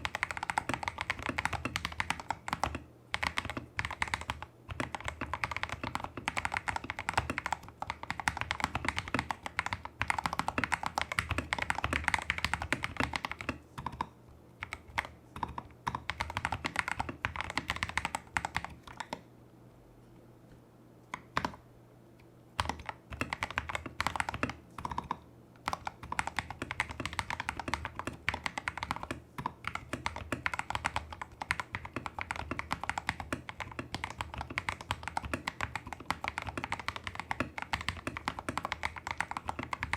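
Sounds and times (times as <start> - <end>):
mechanical keyboard typing: 0.0 - 19.2, 21.1 - 21.6, 22.6 - 39.9.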